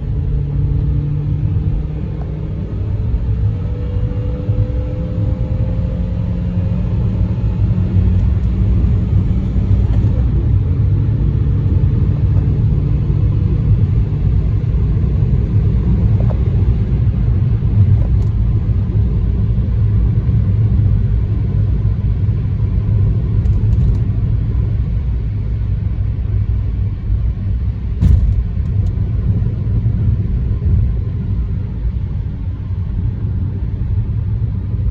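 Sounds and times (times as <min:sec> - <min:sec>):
car engine rumble: 0:00.0 - 0:34.9
road noise: 0:00.0 - 0:34.9.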